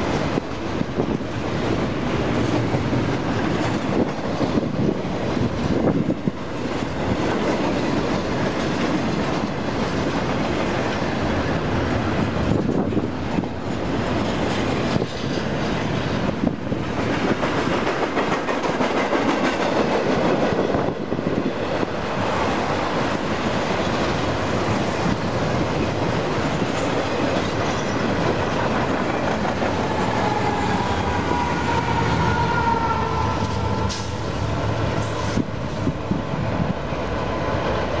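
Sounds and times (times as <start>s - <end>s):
freight train wheels clattering: 0.0s - 32.4s.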